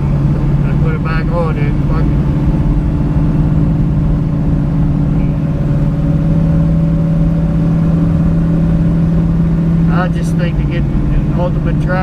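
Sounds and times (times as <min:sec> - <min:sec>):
car engine running: 0:00.0 - 0:12.0
road rumble: 0:00.0 - 0:12.0.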